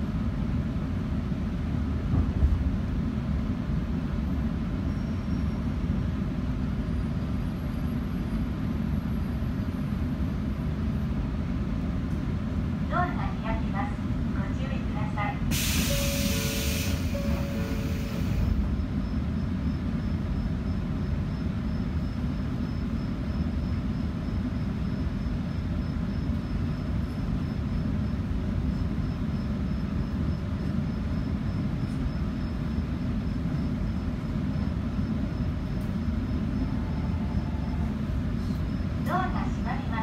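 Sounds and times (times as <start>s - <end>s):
train rumbling on rails: 0.0s - 40.0s.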